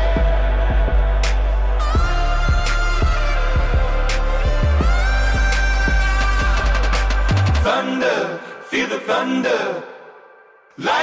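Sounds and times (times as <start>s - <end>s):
pop song with vocals: 0.0s - 11.0s.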